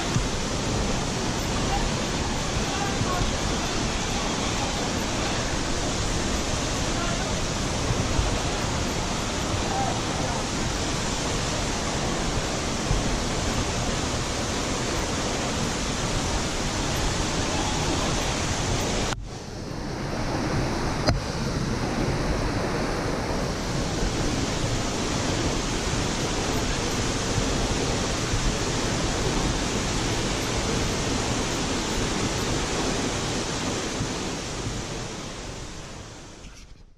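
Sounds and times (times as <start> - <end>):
waterfall rushing: 0.0 - 36.6.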